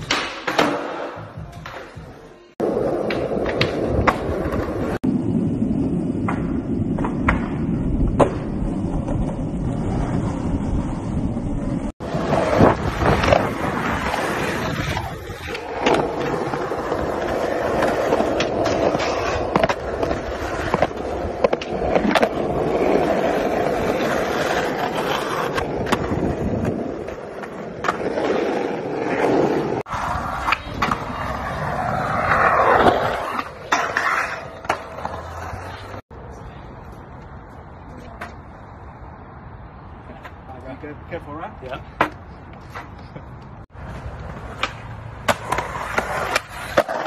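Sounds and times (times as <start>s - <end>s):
skateboard popping and landing: 0.0s - 36.0s, 41.8s - 47.0s
skateboard wheels rolling on pavement: 0.0s - 47.0s.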